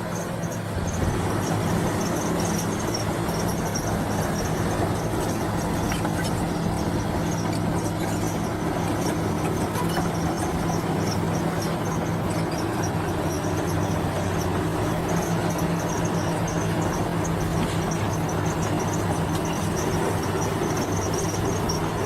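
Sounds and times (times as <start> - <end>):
diesel engine running: 0.0 - 22.0
high-pitched squeaks and clinks: 0.1 - 22.0.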